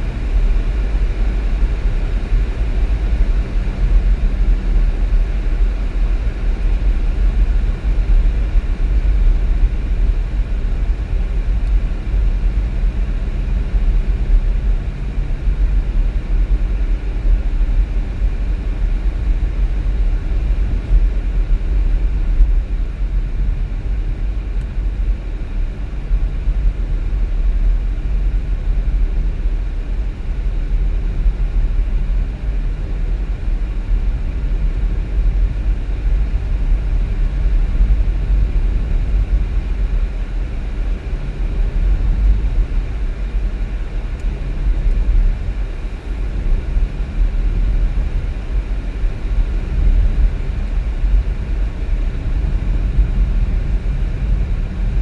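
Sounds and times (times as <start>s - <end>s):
car engine rumble: 0.0s - 55.0s.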